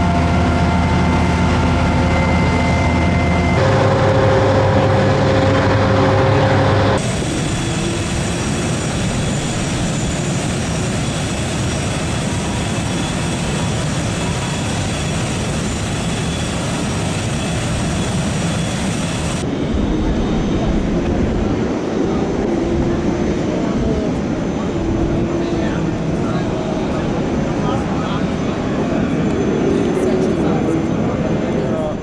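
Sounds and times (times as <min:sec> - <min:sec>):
aircraft engine rushing: 0:00.0 - 0:32.0.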